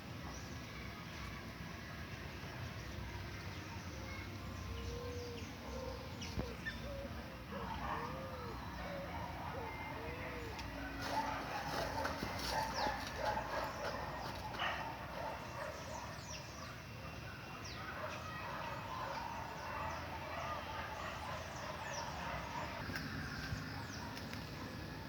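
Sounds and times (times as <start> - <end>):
birds chirping: 2.6 - 25.0.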